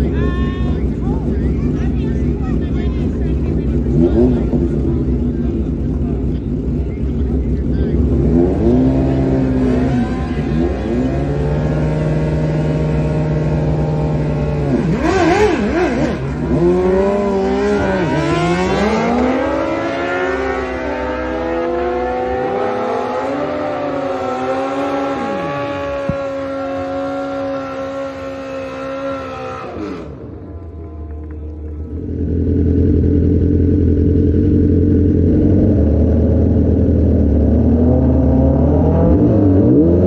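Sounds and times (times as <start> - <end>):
vehicle engine revving: 0.0 - 40.0.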